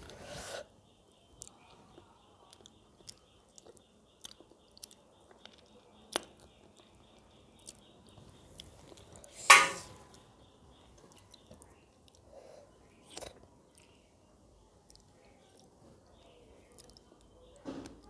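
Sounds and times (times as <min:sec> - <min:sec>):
chewing and eating: 0:01.1 - 0:09.3, 0:10.8 - 0:18.0.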